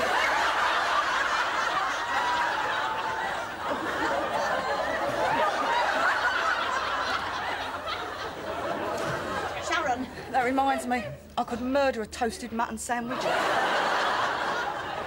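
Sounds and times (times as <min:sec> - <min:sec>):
audience laughing: 0:00.0 - 0:11.2, 0:13.1 - 0:15.0.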